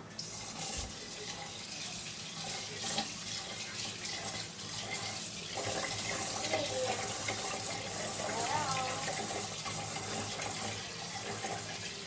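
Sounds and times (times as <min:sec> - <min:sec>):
tap water running into a pot: 0:00.0 - 0:12.0.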